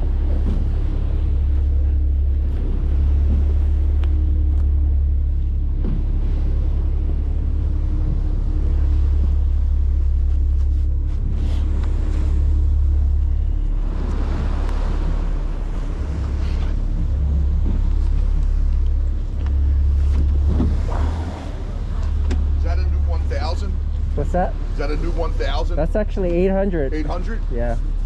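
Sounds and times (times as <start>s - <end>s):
wind buffeting microphone: 0.0s - 25.3s
low rumble: 0.0s - 28.0s.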